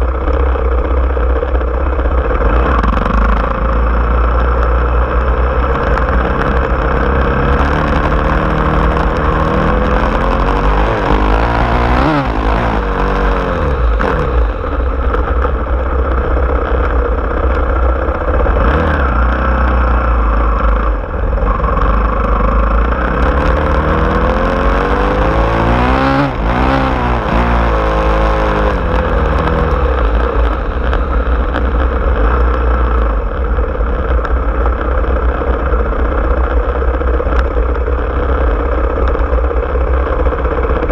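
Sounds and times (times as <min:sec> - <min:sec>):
low rumble: 0:00.0 - 0:40.9
off-road vehicle engine running: 0:00.0 - 0:40.9.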